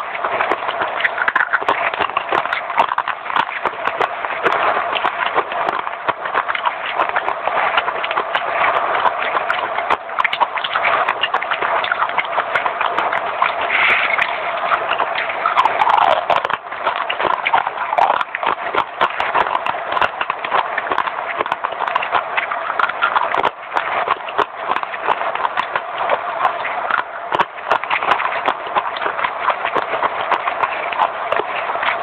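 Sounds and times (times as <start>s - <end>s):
chewing crunchy clay: 0.0s - 32.0s.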